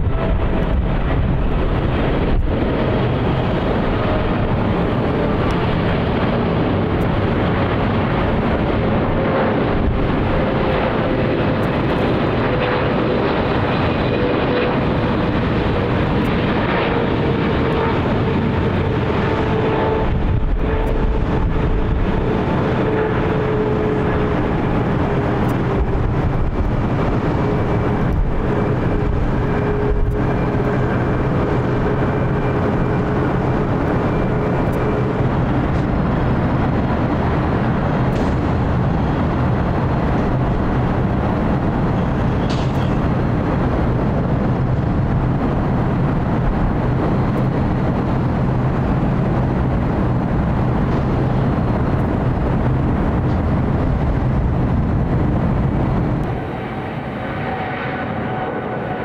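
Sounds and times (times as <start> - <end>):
high engine whine: 0.0 - 59.0
jet engines roaring: 0.0 - 59.0.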